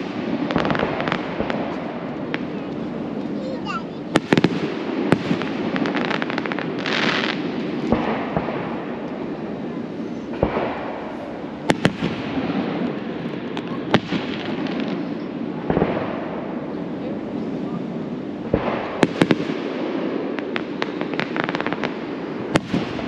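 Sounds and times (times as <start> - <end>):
crackling fireworks stars: 0.0 - 23.0
fireworks bursting in sharp bangs: 0.0 - 23.0.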